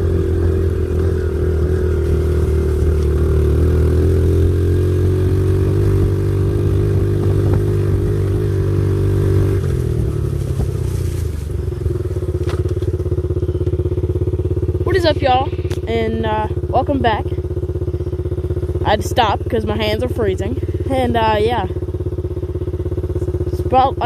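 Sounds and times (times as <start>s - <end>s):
motorbike engine running: 0.0s - 24.0s.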